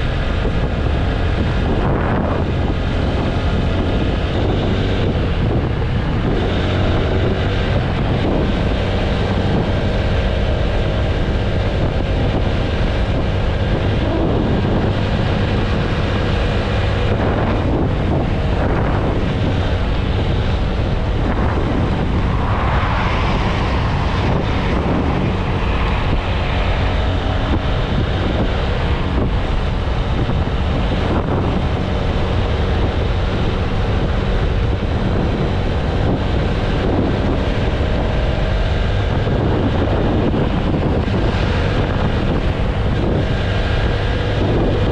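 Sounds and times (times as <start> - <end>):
motorcycle engine cruising: 0.0 - 44.9
wind buffeting on microphone: 0.0 - 44.9.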